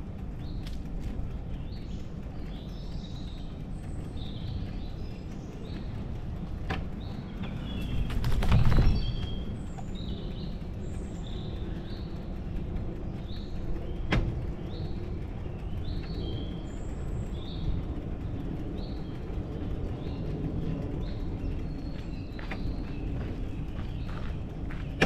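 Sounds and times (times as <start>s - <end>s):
bicycle rolling noise: 0.0s - 25.0s
birds chirping: 0.0s - 25.0s
low wind: 0.0s - 25.0s.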